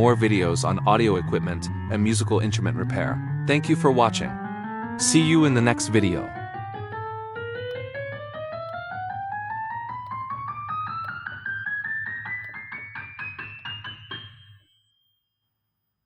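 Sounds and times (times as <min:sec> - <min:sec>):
electric piano music: 0:00.0 - 0:14.8.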